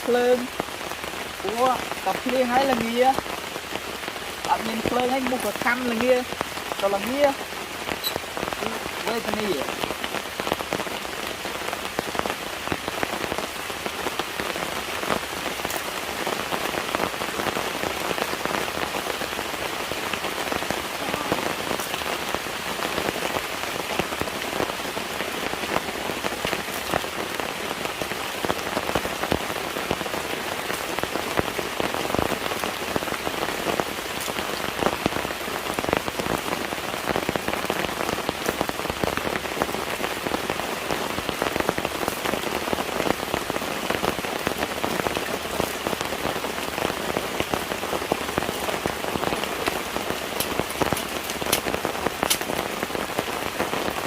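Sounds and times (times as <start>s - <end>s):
rain hiss: 0.0s - 54.0s
raindrops ticking on surface: 0.0s - 54.0s.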